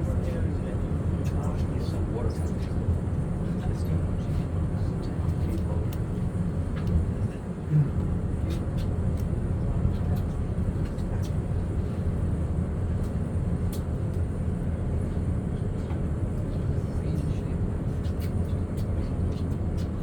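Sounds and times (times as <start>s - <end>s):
low rumble aboard ship: 0.0s - 20.0s.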